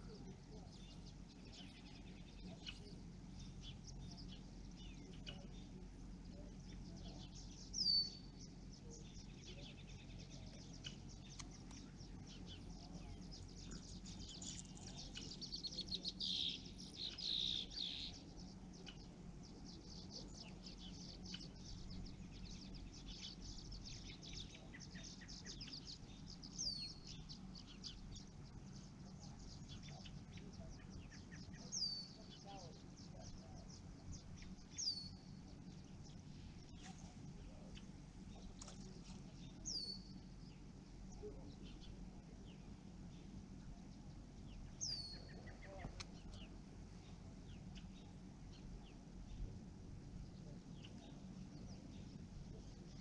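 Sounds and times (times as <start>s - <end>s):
birds calling and singing: 0.0s - 53.0s.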